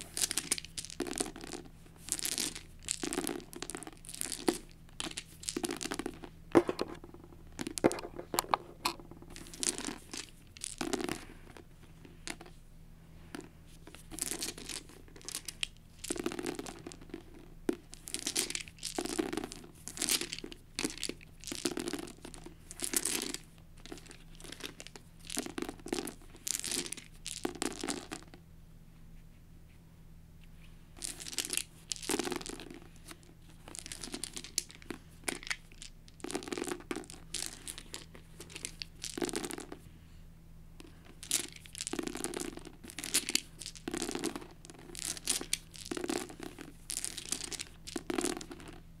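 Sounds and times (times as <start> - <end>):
dice rolling onto a book: 0.0 - 12.6, 13.3 - 28.4, 31.0 - 39.8, 40.8 - 48.8.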